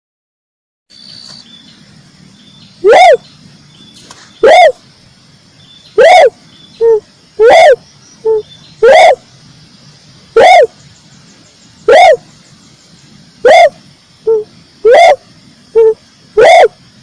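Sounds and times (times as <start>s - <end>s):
faint background noise: 0.9s - 17.0s
turtle dove calling: 0.9s - 17.0s.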